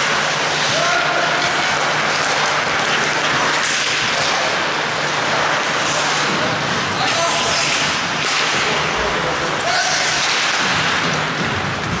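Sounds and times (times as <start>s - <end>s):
skates scraping on ice: 0.0s - 12.0s.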